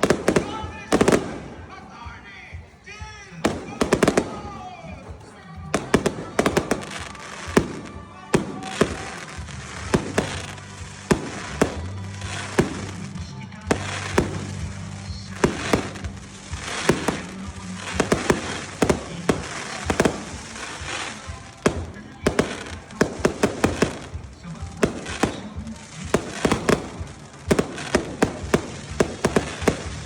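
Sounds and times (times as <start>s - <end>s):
fireworks bangs: 0.0s - 30.0s
fireworks crackling: 0.0s - 30.0s
music: 0.0s - 30.0s.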